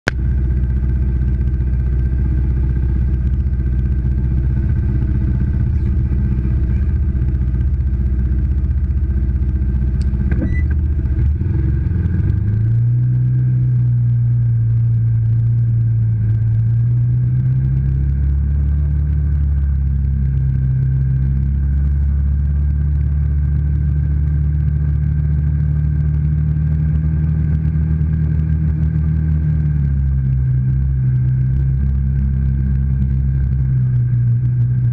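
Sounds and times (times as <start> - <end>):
quad bike engine idling and revving: 0.0 - 34.9.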